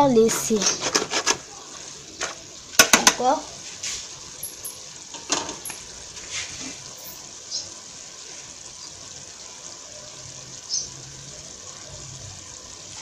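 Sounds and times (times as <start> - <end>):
pot boiling hiss: 0.0 - 13.0.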